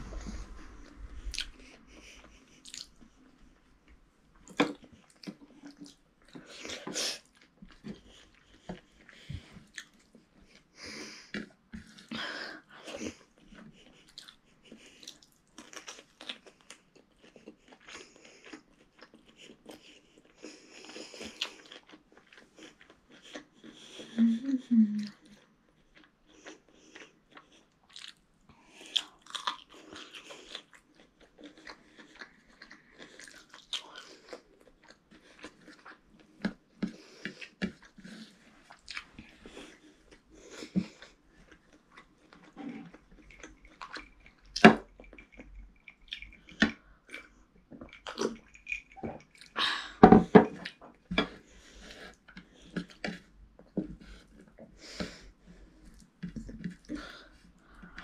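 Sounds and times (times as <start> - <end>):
child chewing and smacking lips: 0.0 - 58.0.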